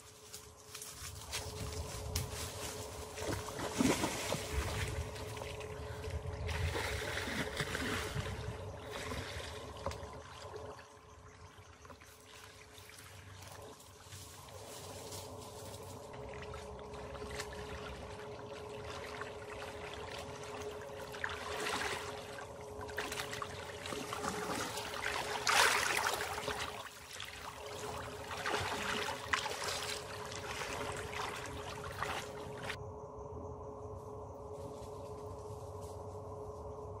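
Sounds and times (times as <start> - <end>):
faint steady hum: 0.0 - 37.0
water sloshing and splashing: 1.3 - 32.8.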